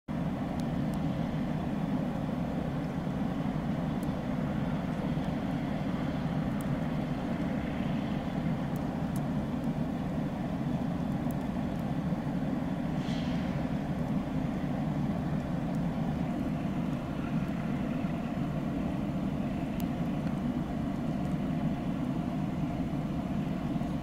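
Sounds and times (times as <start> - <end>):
vehicle engines idling: 0.1 - 24.0.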